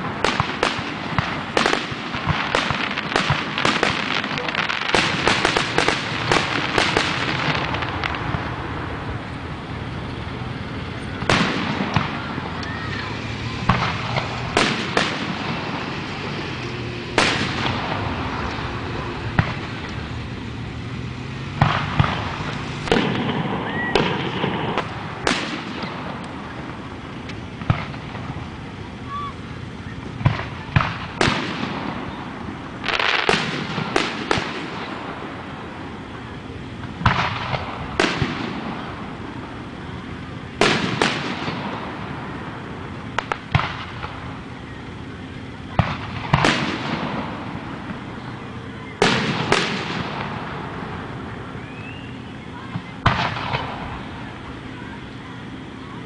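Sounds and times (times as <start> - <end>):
fireworks booming: 0.0 - 56.0.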